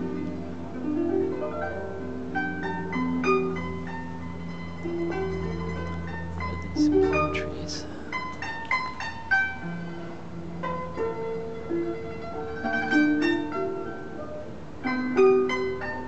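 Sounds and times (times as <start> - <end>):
plucked zither melody: 0.0 - 16.0.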